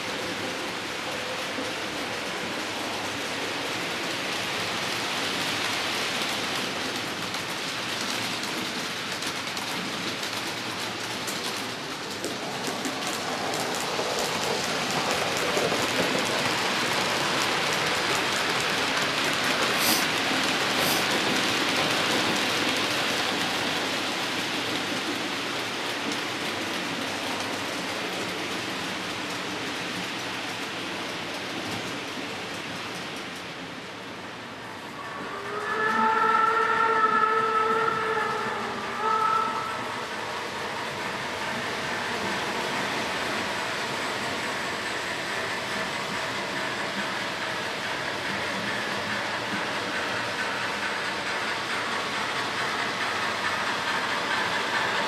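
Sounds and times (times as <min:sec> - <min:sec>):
model train wheels rattling on rails: 0:00.0 - 0:34.6, 0:39.9 - 0:55.0.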